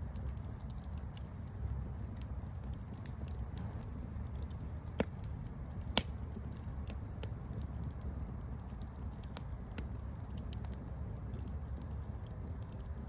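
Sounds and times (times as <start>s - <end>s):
campfire crackles: 0.0s - 13.0s
loud campfire pops: 0.0s - 13.0s
low rumble of flames: 0.0s - 13.0s.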